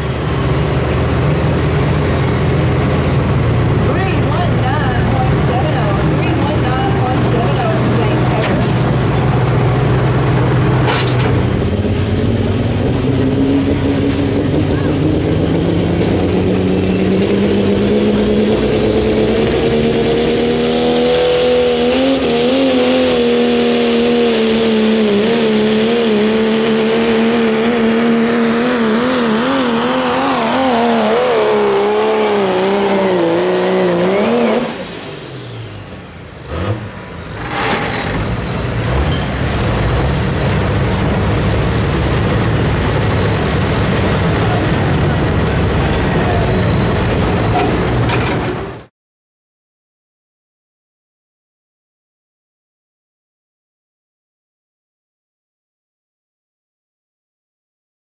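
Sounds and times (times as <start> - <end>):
broad steady rumble: 0.0 - 48.9
engine at full throttle: 0.0 - 48.9.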